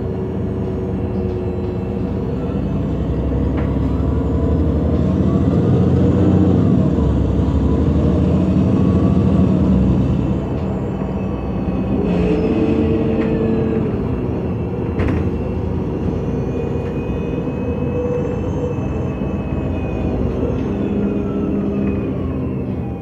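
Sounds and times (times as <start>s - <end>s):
bus engine drone: 0.0s - 23.0s.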